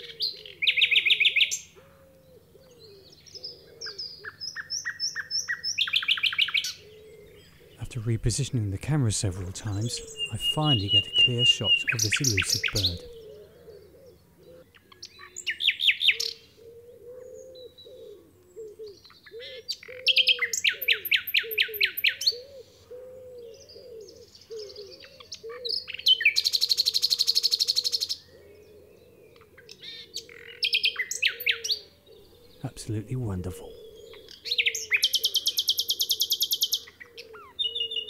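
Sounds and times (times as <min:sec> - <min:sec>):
nightingale singing: 0:00.0 - 0:22.7, 0:23.4 - 0:38.0.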